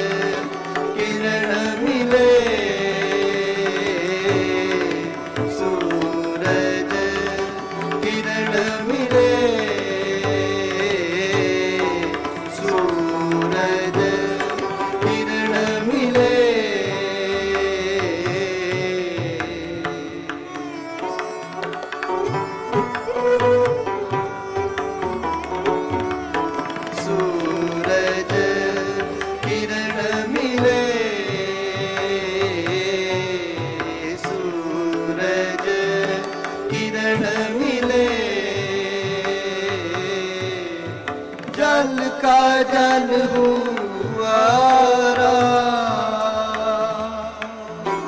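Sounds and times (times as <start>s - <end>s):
harmonium melody: 0.0s - 48.0s
tabla rhythm: 0.0s - 48.0s.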